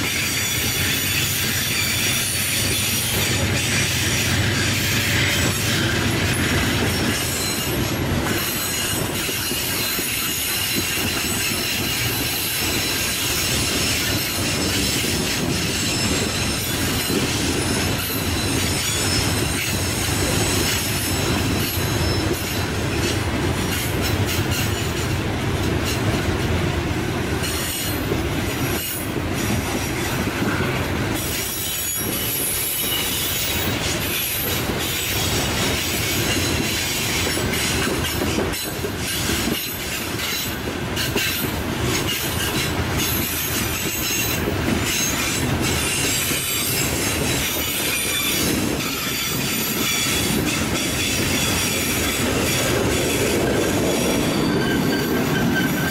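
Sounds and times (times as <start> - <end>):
metallic wheel squeal: 0.0 - 25.0, 28.7 - 55.9
diesel locomotive rumble: 0.0 - 55.9.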